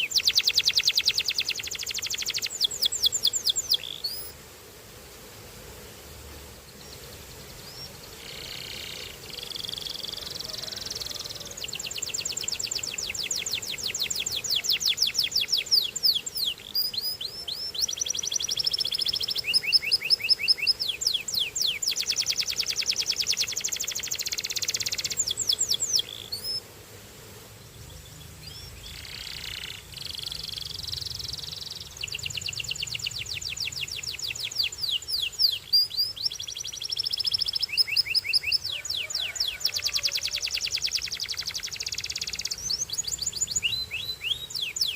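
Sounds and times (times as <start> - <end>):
canary singing trills: 0.0 - 4.3, 6.8 - 26.6, 27.8 - 44.9.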